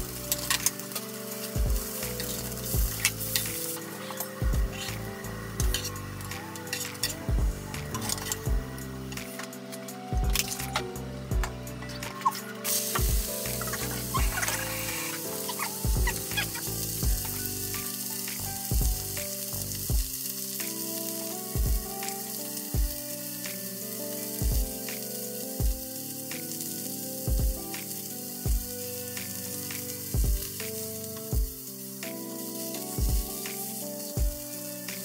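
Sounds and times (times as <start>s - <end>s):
background music with beat: 0.0s - 35.0s
meat sizzling in a frying pan: 0.0s - 35.0s.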